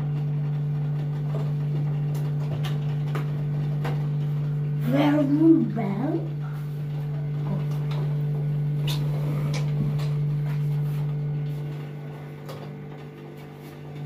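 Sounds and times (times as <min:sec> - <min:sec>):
petrol generator humming: 0:00.0 - 0:14.0.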